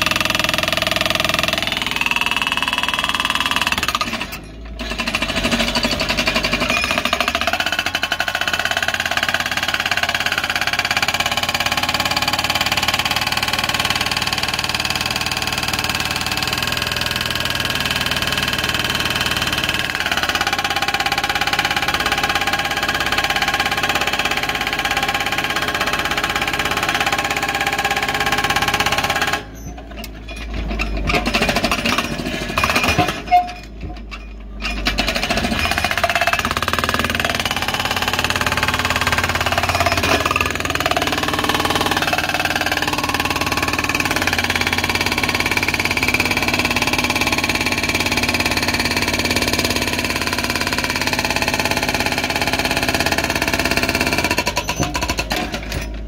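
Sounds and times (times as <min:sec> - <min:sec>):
hydraulic breaker hammering rock: 0:00.0 - 0:29.7, 0:30.7 - 0:33.8, 0:34.6 - 0:56.0
excavator engine: 0:00.0 - 0:56.0.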